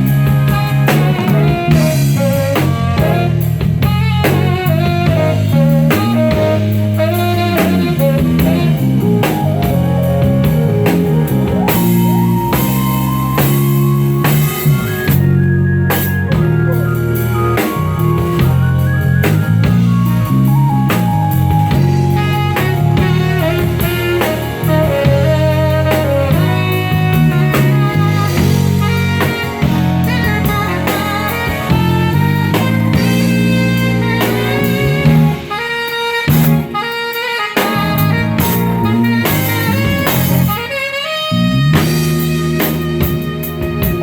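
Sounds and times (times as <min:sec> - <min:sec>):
band playing instrumental music: 0:00.0 - 0:44.0
drum kit beat: 0:00.0 - 0:44.0.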